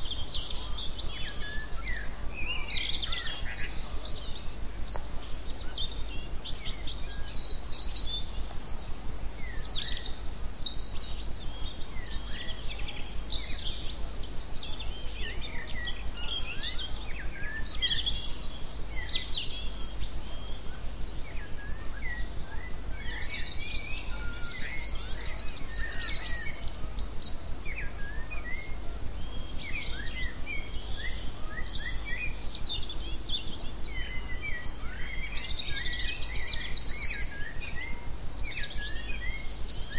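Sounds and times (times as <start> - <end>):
songbirds chirping and twittering: 0.0 - 39.9
steady low hum: 0.0 - 39.9.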